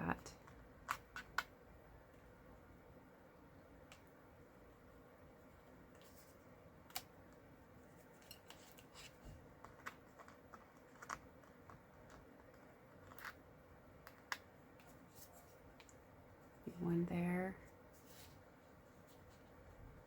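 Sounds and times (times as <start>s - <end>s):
faint room hiss: 0.0s - 20.0s.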